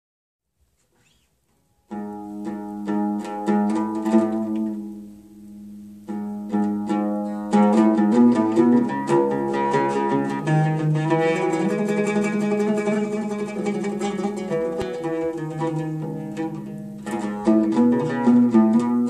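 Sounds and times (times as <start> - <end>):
oud melody plucked: 1.9 - 19.0.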